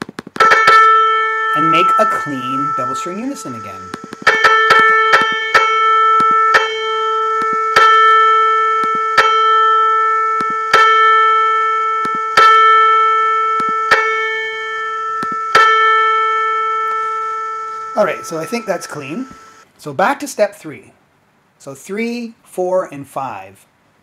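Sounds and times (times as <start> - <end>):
piano note struck and ringing: 0.4 - 19.6.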